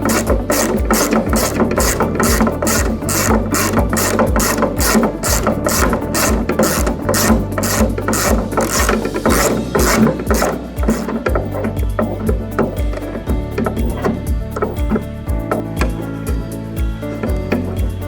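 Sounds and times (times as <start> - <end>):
music with clicking beat and bass: 0.0 - 18.0.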